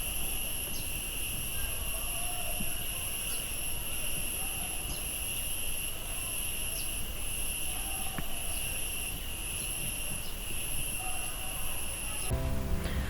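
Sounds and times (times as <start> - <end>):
cicada chorus drone: 0.0 - 13.0.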